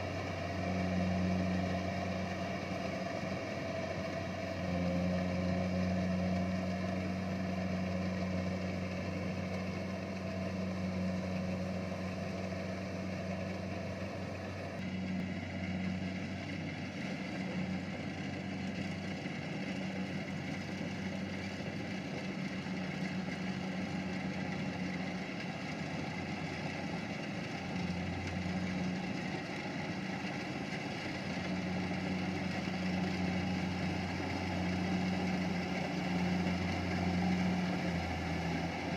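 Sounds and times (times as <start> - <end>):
harvester engine droning: 0.0 - 38.9.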